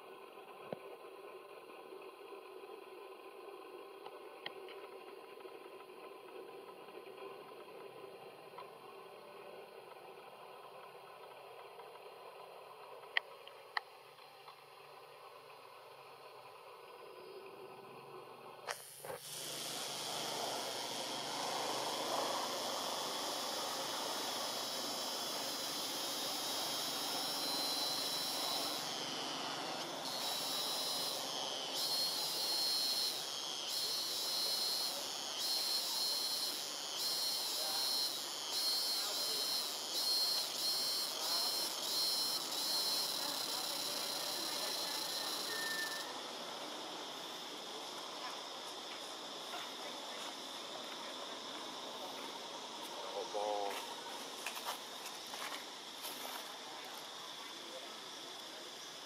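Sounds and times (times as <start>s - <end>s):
rhythmic pulsing insect call: 0.0s - 59.0s
hiss of forest insects: 11.2s - 59.0s.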